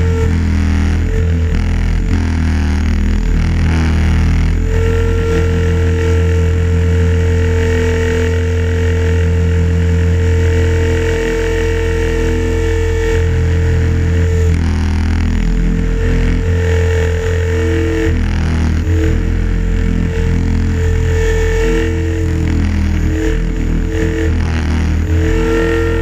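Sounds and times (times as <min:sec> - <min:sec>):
motor and gear whine: 0:00.0 - 0:26.0.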